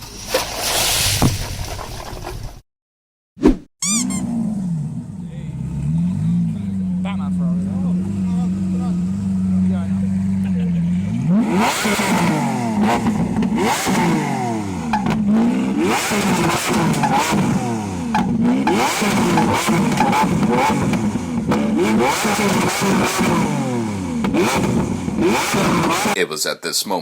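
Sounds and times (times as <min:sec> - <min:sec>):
loud car engine revving: 0:04.1 - 0:26.2.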